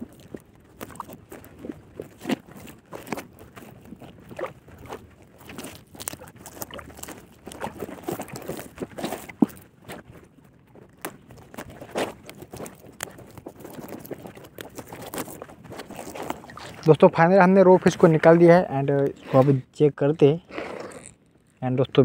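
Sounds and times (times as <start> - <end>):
nylon net rustling and scraping: 0.0 - 21.7.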